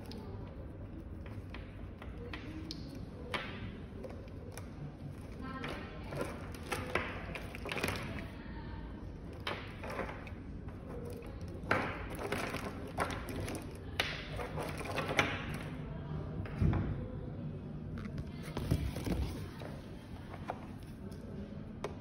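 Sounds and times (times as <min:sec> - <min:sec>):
plastic cables rustling: 0:00.0 - 0:08.4, 0:09.2 - 0:15.8, 0:18.0 - 0:21.2.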